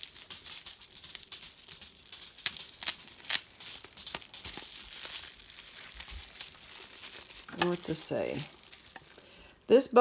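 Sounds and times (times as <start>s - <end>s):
packing material crinkling: 0.0s - 9.8s.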